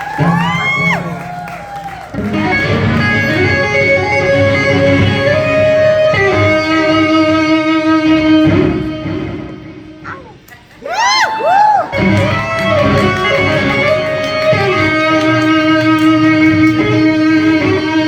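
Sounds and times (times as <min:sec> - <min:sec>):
live rock band playing: 0:00.0 - 0:10.5, 0:12.0 - 0:18.0
electric guitar sustained notes: 0:00.0 - 0:10.7, 0:11.8 - 0:18.0.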